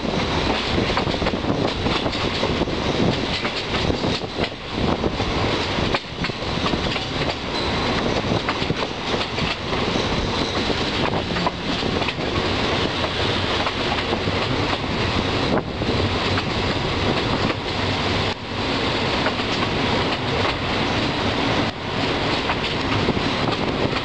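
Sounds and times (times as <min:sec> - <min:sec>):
rail clicks: 0:00.0 - 0:24.0
wheels rumbling on rails: 0:00.0 - 0:24.0.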